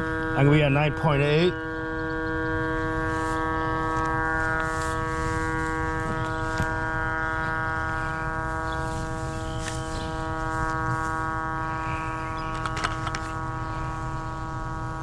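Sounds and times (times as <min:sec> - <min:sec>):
steady electronic tone: 0:00.0 - 0:15.0.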